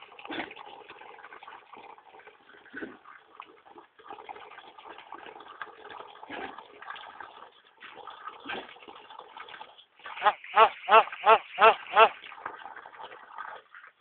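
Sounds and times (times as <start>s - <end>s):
water pouring into bucket: 0.0s - 14.0s.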